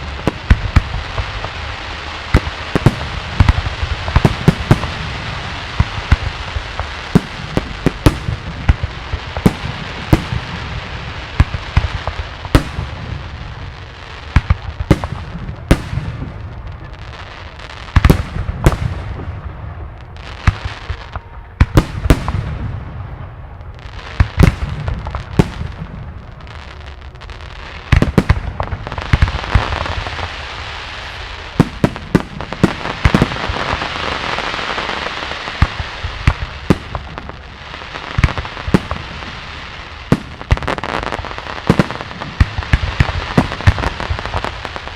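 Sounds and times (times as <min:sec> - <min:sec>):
crackling hiss of fireworks: 0:00.0 - 0:44.9
fireworks bursting with loud bangs: 0:00.0 - 0:44.9.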